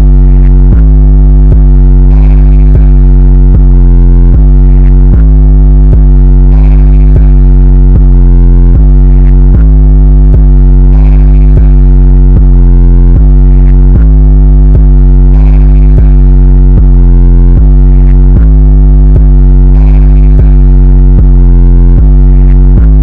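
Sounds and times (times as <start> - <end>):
bass-heavy electronic music: 0.0 - 23.0.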